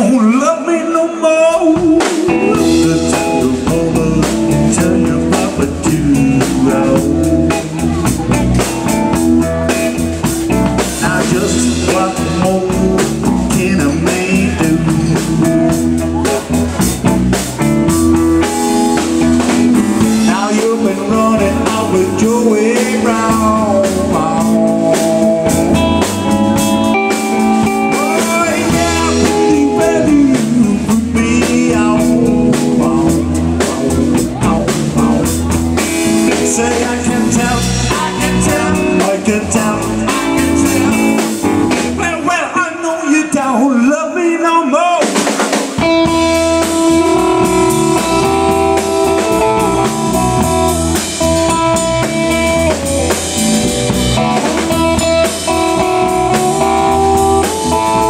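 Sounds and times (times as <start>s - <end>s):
person singing: 0.0s - 17.4s, 18.4s - 45.2s, 45.8s - 58.0s
blues-rock band playing: 0.1s - 42.6s, 45.0s - 58.0s.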